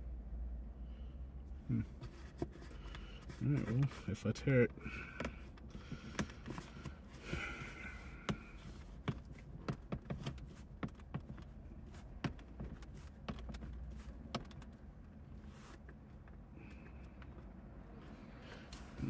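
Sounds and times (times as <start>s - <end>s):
hands twisting gear shift knob: 1.8s - 19.0s.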